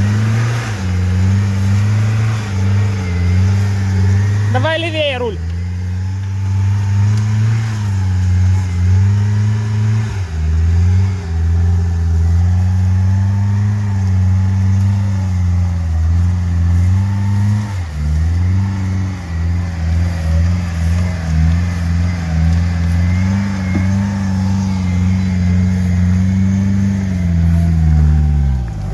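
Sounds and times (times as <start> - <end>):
car engine running at low revs: 0.0 - 28.9.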